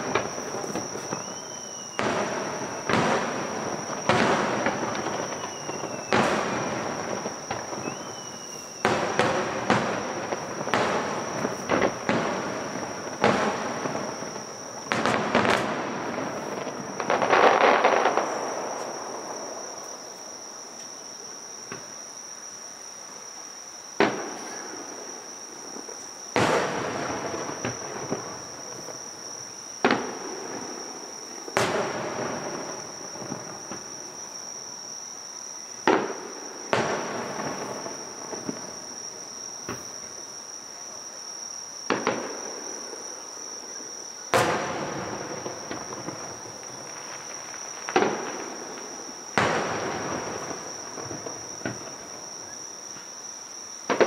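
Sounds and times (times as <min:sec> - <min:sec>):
distant fireworks booming: 0:00.0 - 0:20.6, 0:24.0 - 0:34.9, 0:35.5 - 0:40.4, 0:41.8 - 0:53.1
insects chirring: 0:00.0 - 0:54.0.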